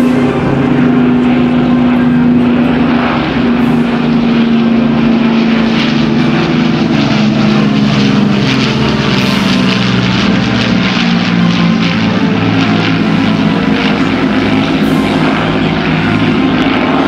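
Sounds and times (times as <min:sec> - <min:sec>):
propeller aircraft drone: 0:00.0 - 0:17.0.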